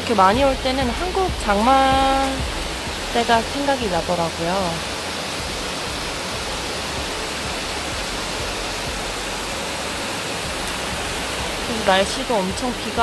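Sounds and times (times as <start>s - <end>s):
heavy rain downpour: 0.0s - 13.0s.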